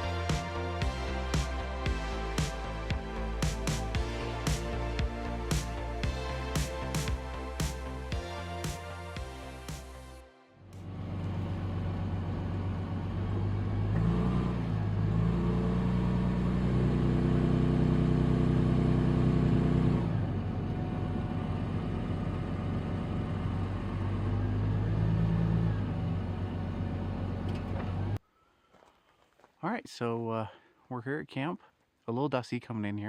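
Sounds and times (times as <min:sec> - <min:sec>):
pickup truck engine driving: 0:00.0 - 0:10.1, 0:10.7 - 0:28.2.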